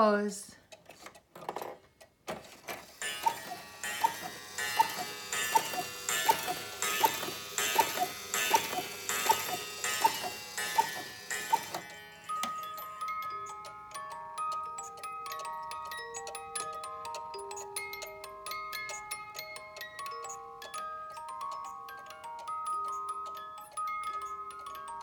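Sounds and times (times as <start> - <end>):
cuckoo clock calls: 2.7 - 25.0
music box tinkling tune: 2.8 - 25.0.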